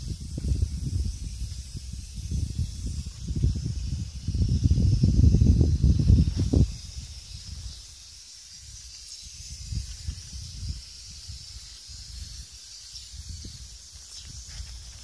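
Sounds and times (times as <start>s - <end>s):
wind buffeting microphone: 0.0s - 7.9s, 8.6s - 15.0s
steady high hiss: 0.0s - 15.0s.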